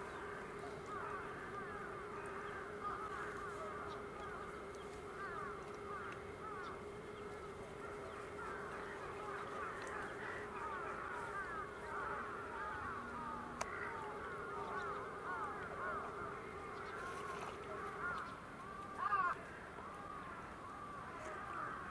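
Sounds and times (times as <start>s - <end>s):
chorus of waterbirds calling: 0.0s - 21.9s
steady hum: 0.0s - 21.9s.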